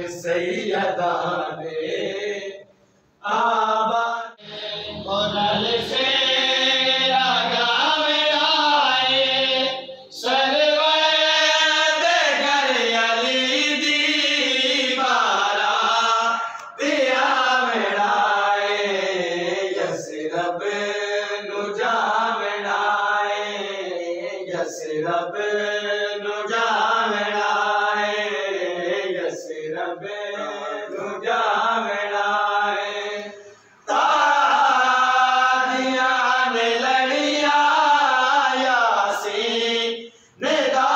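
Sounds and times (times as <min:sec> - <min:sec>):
person chanting: 0:03.2 - 0:40.9.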